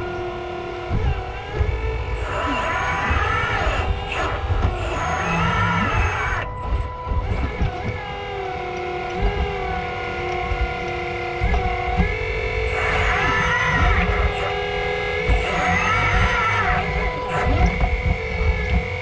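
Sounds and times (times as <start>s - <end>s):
hydraulic pump whining: 0.0s - 19.0s.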